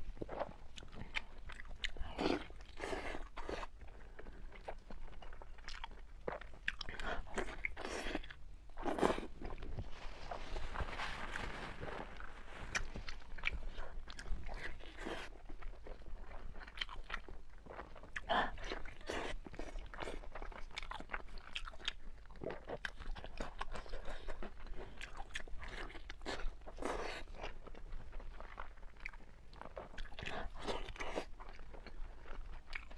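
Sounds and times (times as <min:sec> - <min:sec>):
close chewing and mouth smacks: 0:00.0 - 0:10.9, 0:12.2 - 0:32.9.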